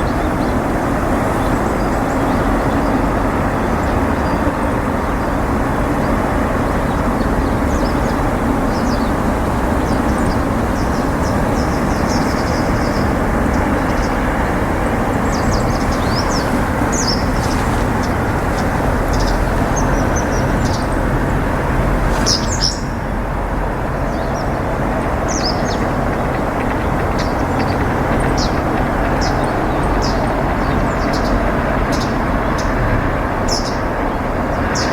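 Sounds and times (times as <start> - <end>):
small birds chirping: 0.0 - 32.8
low background rumble: 0.0 - 34.8.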